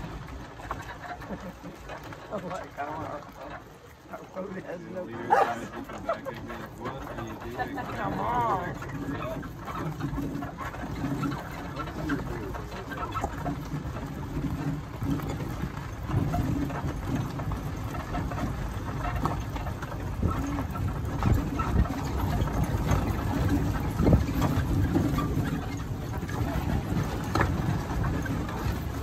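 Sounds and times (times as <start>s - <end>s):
clicks and rattles: 0.0s - 29.0s
wheels rumbling on gravel: 0.0s - 29.0s.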